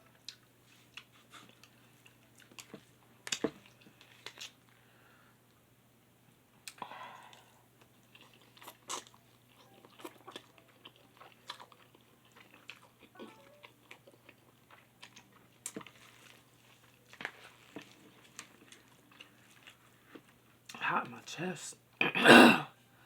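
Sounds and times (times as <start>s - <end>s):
person chewing noodles: 0.0s - 4.7s, 6.6s - 20.8s.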